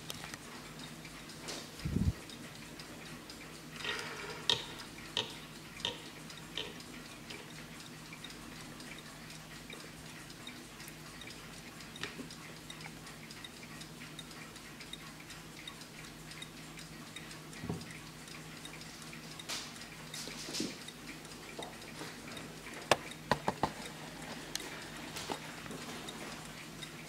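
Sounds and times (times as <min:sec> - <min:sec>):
clock click: 0:00.0 - 0:27.0
pendulum clock ticking: 0:00.0 - 0:27.0.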